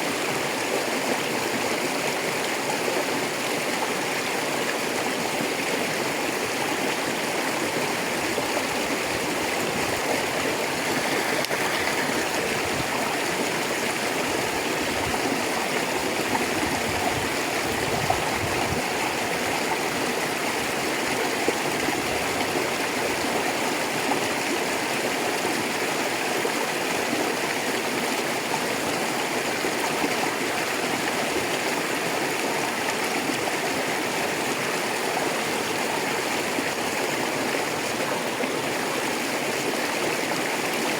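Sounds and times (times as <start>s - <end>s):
river rushing over stones: 0.0s - 40.9s.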